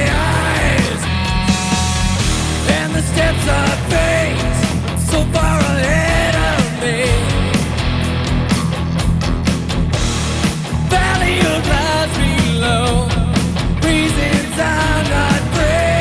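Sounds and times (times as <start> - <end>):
drum hits: 0.0 - 13.7
rock band playing live: 0.0 - 16.0.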